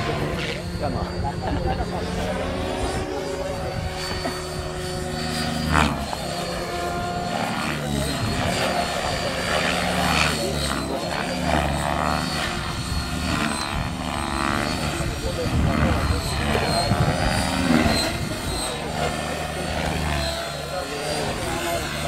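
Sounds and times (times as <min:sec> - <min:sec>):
model helicopter rotor and motor: 0:00.0 - 0:22.0.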